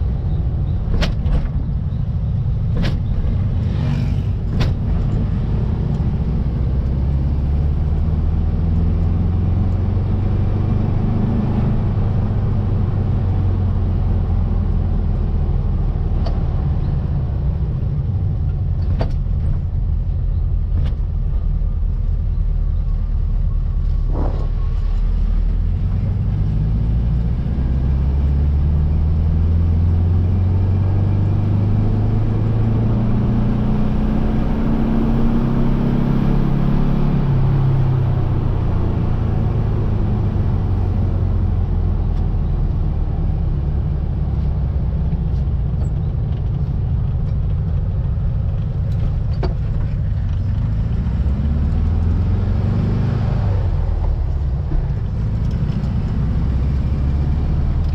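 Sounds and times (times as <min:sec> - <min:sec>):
car engine running under load: 0:00.0 - 0:57.9.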